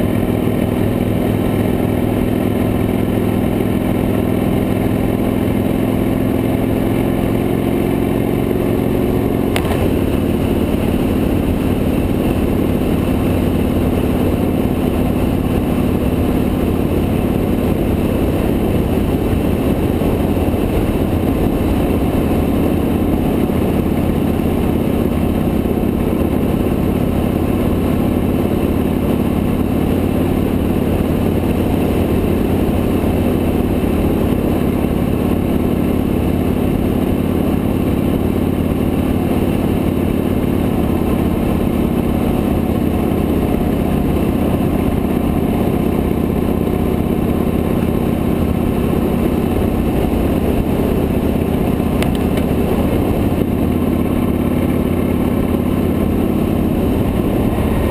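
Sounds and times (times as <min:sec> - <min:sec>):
motorcycle engine cruising: 0:00.0 - 0:57.9
road noise: 0:00.0 - 0:57.9.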